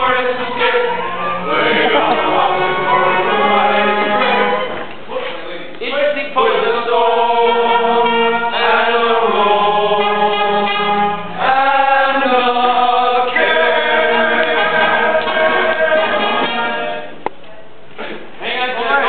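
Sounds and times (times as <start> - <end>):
men's chorus singing: 0.0 - 4.8, 6.0 - 17.2, 18.4 - 19.0.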